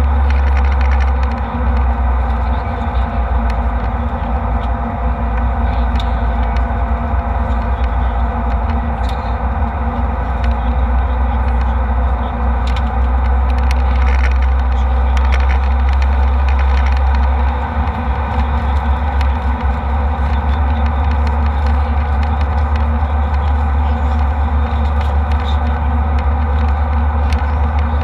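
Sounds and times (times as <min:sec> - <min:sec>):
faint hum: 0:00.0 - 0:28.0
jet engine and airflow roar: 0:00.0 - 0:28.0.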